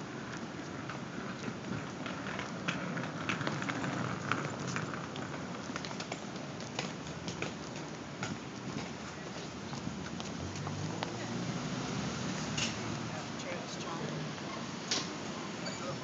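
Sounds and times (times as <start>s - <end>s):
footsteps on stone paving: 0.0s - 15.3s
street noise: 0.0s - 16.0s.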